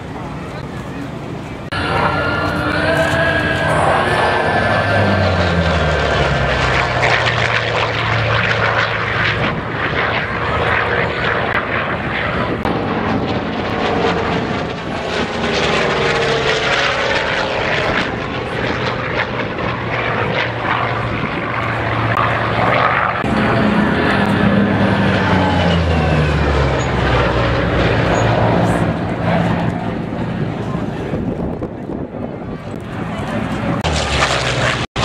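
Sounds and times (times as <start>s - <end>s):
propeller plane engine droning: 0.0s - 35.0s.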